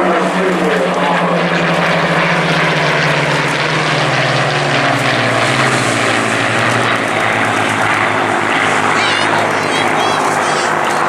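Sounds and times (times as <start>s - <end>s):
propeller plane engine roaring: 0.0s - 11.0s.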